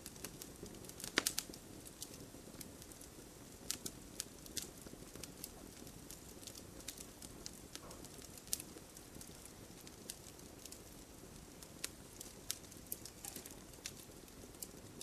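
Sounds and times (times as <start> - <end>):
fire hiss: 0.0 - 15.0
wood fire pops and snaps: 0.0 - 15.0.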